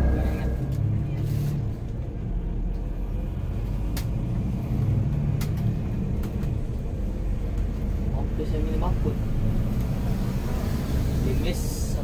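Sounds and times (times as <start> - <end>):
diesel engine rumble: 0.0 - 12.0
road noise: 0.0 - 12.0.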